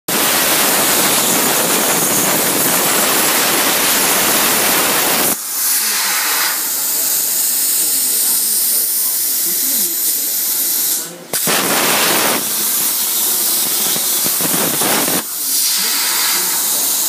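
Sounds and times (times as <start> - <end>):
air hissing through torch: 0.1 - 17.0
plasma torch hissing: 0.1 - 17.0.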